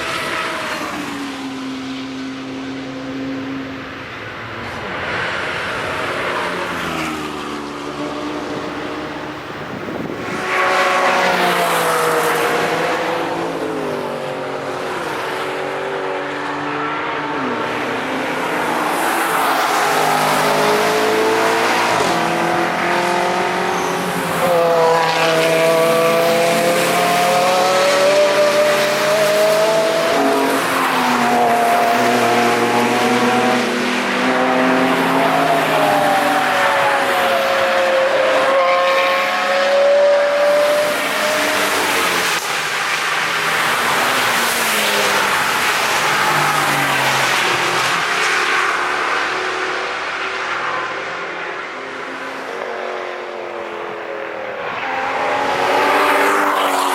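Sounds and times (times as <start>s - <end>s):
cars passing at speed: 0.0s - 56.9s.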